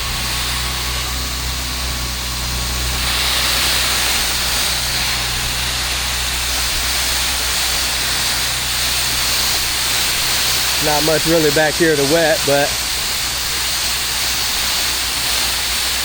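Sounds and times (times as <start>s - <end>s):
pressure washer running: 0.0s - 16.0s
water spray hissing onto plants: 0.0s - 16.0s.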